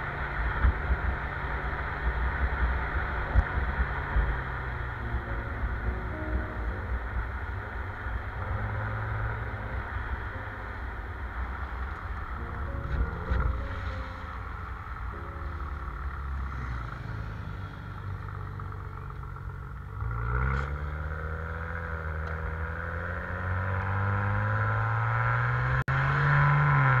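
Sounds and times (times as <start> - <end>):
car engine heard from cabin: 0.0 - 27.0.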